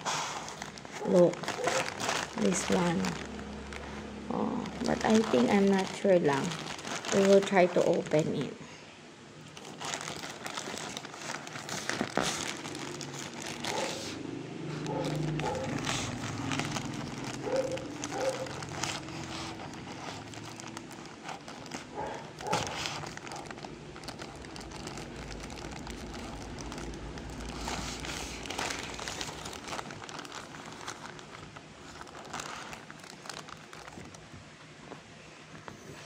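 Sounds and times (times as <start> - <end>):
plastic mailer bag crinkling: 0.0 - 8.7, 9.4 - 34.5.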